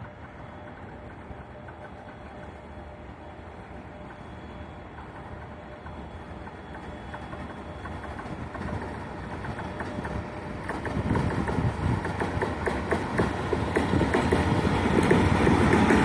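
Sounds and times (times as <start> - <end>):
sharp clicks of train wheels: 0.0 - 16.0
train wheels rumbling on rail: 0.0 - 16.0.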